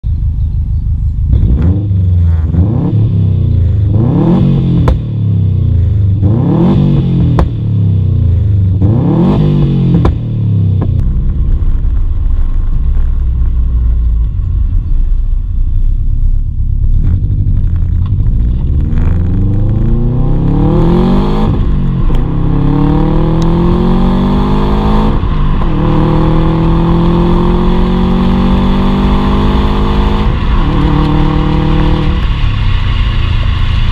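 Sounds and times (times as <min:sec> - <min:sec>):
car engine revving and idling: 0:00.0 - 0:33.9.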